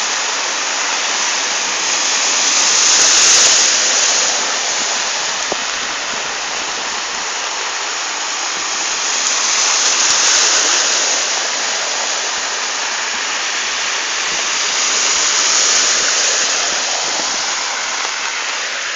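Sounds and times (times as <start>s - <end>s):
rain on a flooded street: 0.0s - 18.9s.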